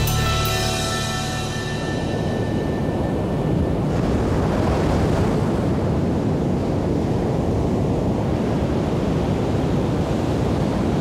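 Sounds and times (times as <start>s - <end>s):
wind: 0.0s - 11.0s
ocean surf breaking: 0.9s - 11.0s.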